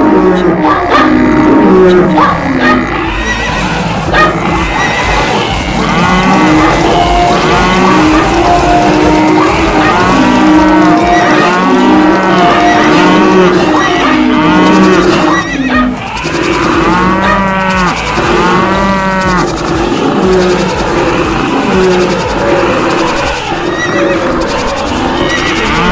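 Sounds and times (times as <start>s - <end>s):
cattle mooing: 0.0s - 25.9s.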